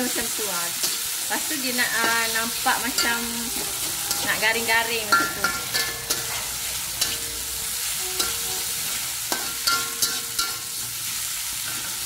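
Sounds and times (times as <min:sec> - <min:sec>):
paste sizzling in hot oil: 0:00.0 - 0:12.0
spatula scraping and tapping wok: 0:00.2 - 0:12.0.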